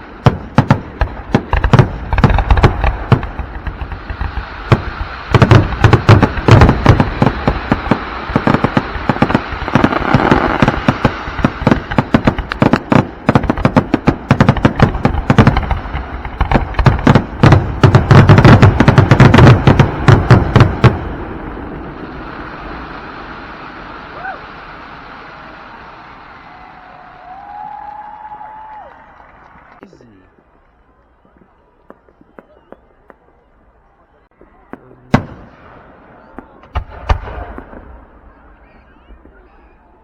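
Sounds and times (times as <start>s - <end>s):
fireworks bangs: 0.0s - 29.8s, 30.4s - 40.0s
background noise: 0.0s - 40.0s.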